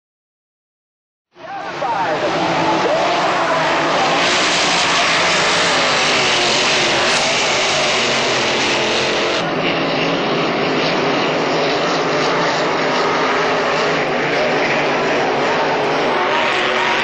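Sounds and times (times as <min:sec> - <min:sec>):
racing boat engines: 0:01.3 - 0:17.0.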